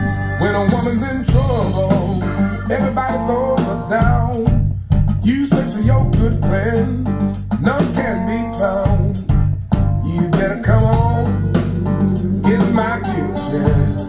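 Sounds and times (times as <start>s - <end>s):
person singing: 0.0s - 4.6s, 5.2s - 9.3s, 9.9s - 14.0s
acoustic guitar music: 0.0s - 14.0s
steady bass: 0.0s - 14.0s.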